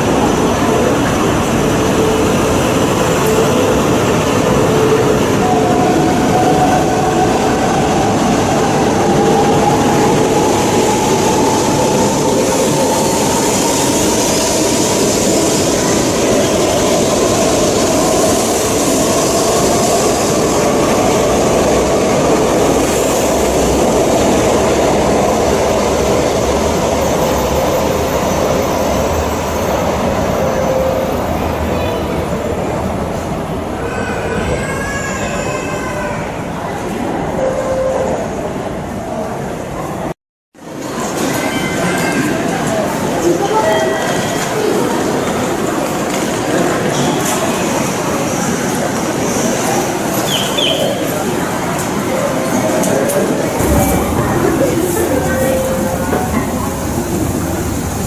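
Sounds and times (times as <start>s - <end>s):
high-speed train rumble: 0.0s - 58.0s.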